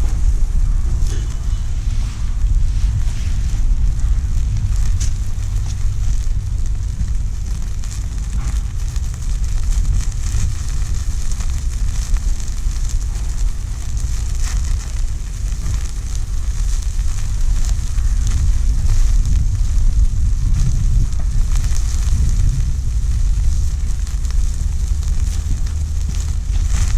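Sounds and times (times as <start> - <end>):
campfire crackling and hissing: 0.0 - 26.9
low rumble: 0.0 - 26.9
meat sizzling: 0.0 - 26.9.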